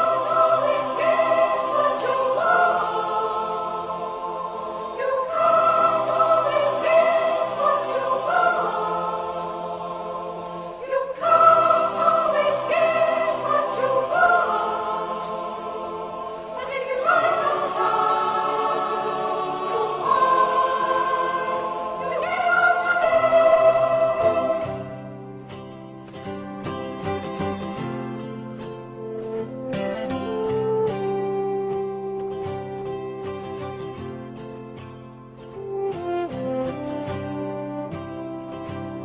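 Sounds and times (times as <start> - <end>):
choir singing sustained phrases: 0.0 - 39.0.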